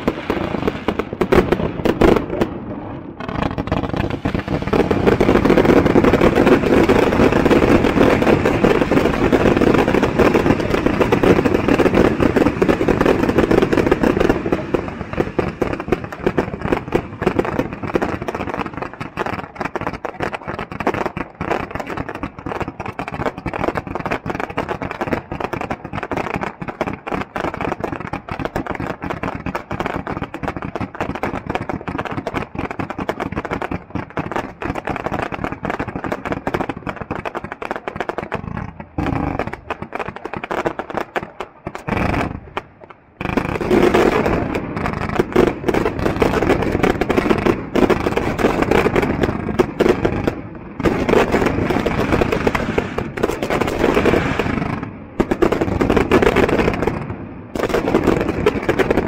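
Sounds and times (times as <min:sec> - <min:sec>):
fireworks crackling and popping: 0:00.0 - 0:59.0
fireworks fountains hissing: 0:00.0 - 0:59.0.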